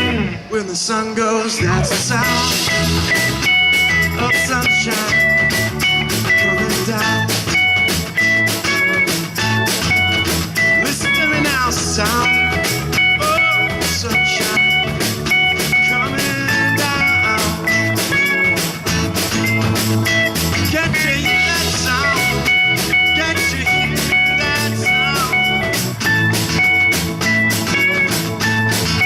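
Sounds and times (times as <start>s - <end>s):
bass: 0.0s - 29.0s
lead guitar bending lines: 0.0s - 29.0s
steady drum beat: 1.6s - 29.0s.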